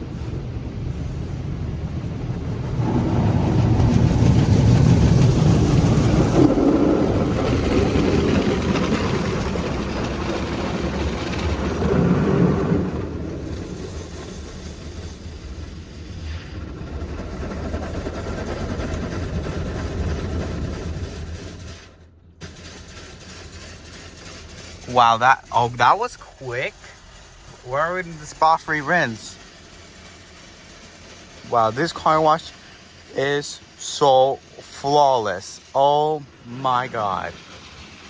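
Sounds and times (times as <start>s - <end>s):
water jets spraying car: 0.0s - 38.0s.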